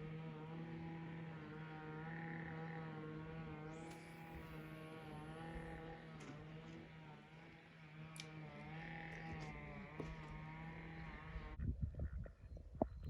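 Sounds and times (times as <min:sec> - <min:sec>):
distant engine running: 0:00.0 - 0:11.6.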